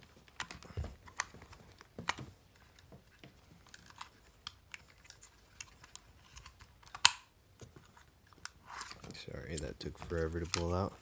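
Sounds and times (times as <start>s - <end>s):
small plastic clicks and knocks: 0.3s - 11.0s.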